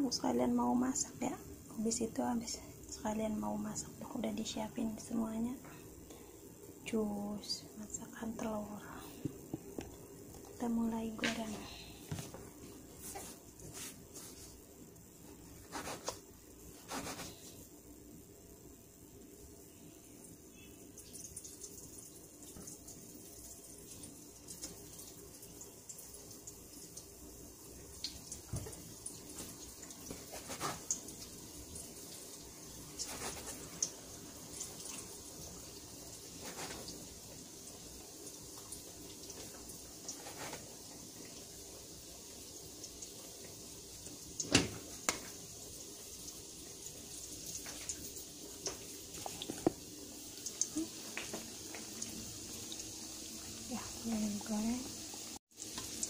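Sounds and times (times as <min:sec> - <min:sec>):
dough sizzling in hot oil: 0:00.0 - 0:56.0.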